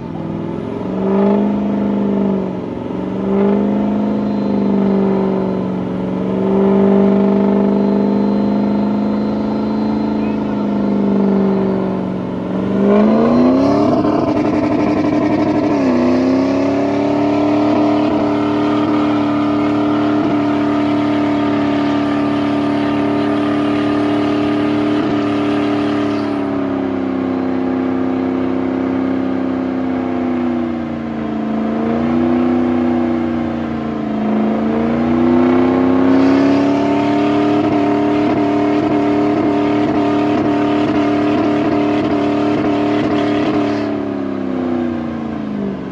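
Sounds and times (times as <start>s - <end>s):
truck engine revving high: 0.0s - 45.9s.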